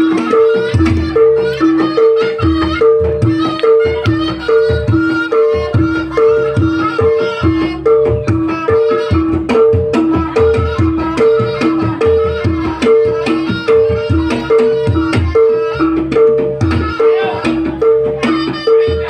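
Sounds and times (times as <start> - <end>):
hand drums beating: 0.0 - 19.0
tuned percussion notes alternating: 0.0 - 19.0.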